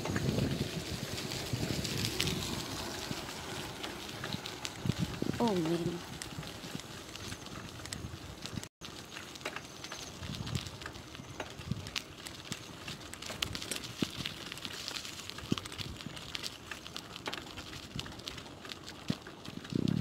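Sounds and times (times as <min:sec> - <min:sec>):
bicycle tyres hissing on wet road: 0:00.0 - 0:20.0
small crackles and clicks: 0:00.0 - 0:20.0.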